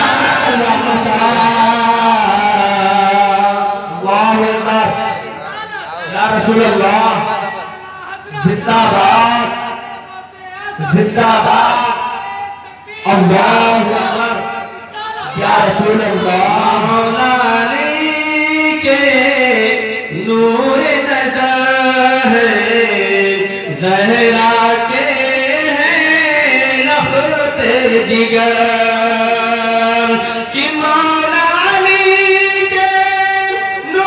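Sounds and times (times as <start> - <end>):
man singing into microphone: 0.0 - 34.0.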